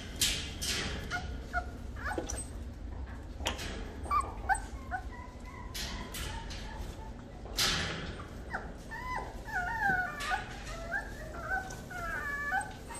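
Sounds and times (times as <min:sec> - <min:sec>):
puppies whining: 0:00.9 - 0:03.0, 0:03.9 - 0:12.9.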